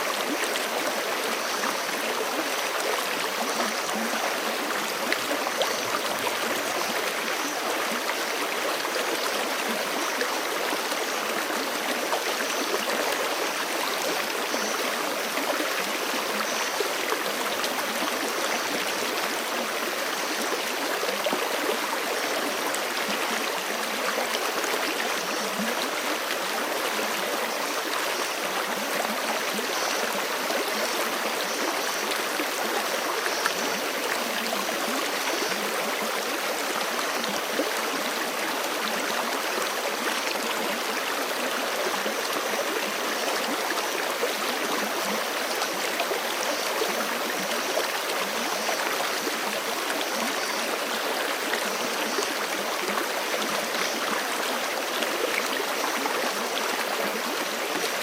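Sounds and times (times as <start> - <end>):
creek water flowing: 0.0 - 58.0.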